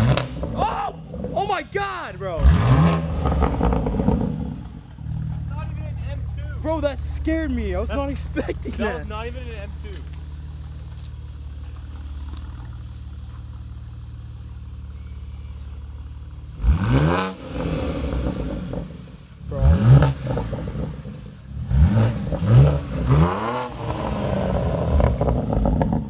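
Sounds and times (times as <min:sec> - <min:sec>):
car engine idling: 0:00.0 - 0:26.0
car engine revving: 0:00.0 - 0:26.0.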